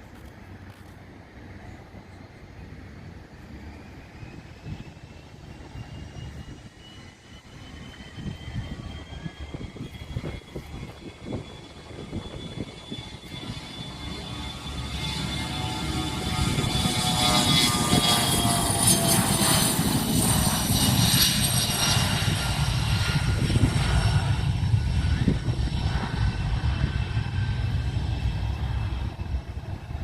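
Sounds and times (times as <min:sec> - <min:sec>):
airliner engines whining: 0:00.0 - 0:30.0.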